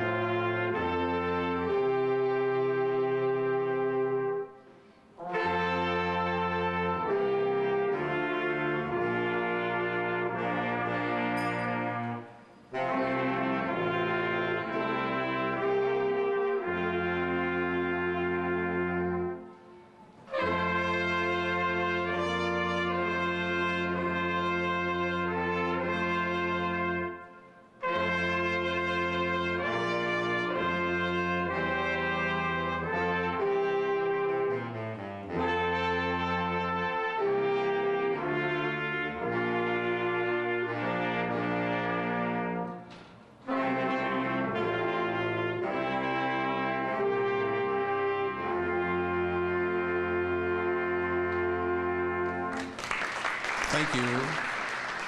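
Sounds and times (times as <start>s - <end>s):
brass band playing held chords: 0.0s - 55.0s.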